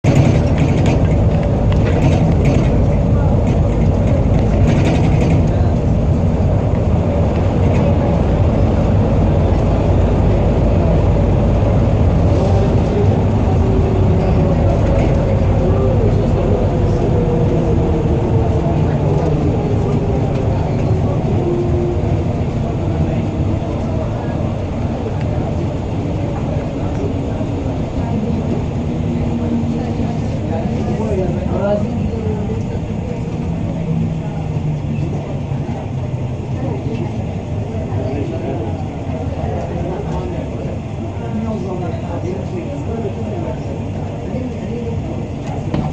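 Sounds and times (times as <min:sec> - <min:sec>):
faint passenger voices: 0:00.0 - 0:45.9
train running rumble: 0:00.0 - 0:45.9.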